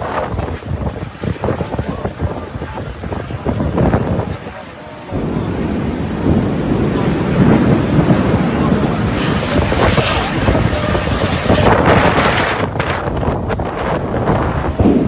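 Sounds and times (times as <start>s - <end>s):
rainstorm rushing: 0.0s - 15.0s
wind buffeting microphone: 0.0s - 15.0s.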